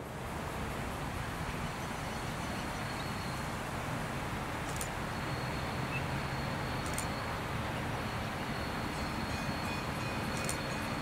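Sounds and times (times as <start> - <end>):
distant locomotive engine hum: 0.0 - 11.0
outdoor noise: 0.0 - 11.0.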